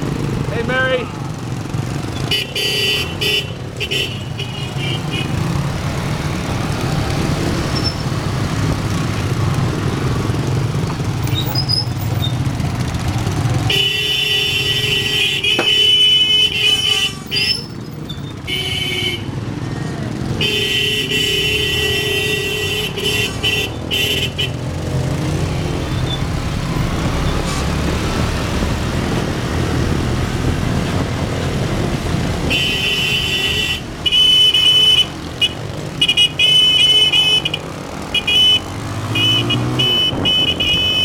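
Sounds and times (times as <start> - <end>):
motorbike engines running: 0.0 - 41.0.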